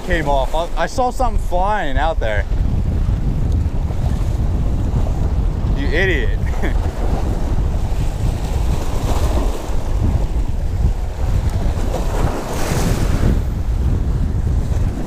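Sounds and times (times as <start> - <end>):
waves splashing against rocks: 0.0 - 15.0
wind buffeting microphone: 0.0 - 15.0.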